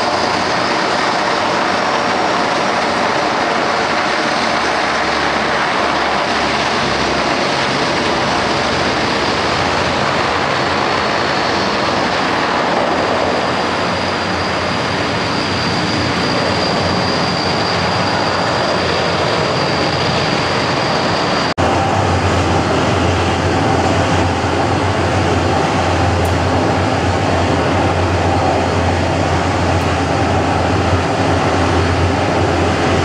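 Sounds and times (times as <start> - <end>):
airplane engines running: 0.0 - 33.0
high engine whine: 0.0 - 33.0.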